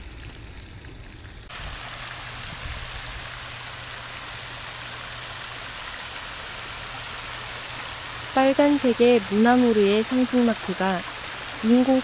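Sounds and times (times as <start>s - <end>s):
waterfall rushing into pool: 1.5s - 12.0s.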